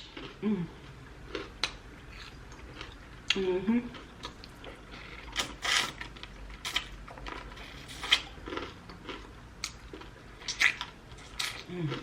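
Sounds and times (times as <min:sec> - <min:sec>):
eating crunchy chicken wings: 0:00.0 - 0:12.0.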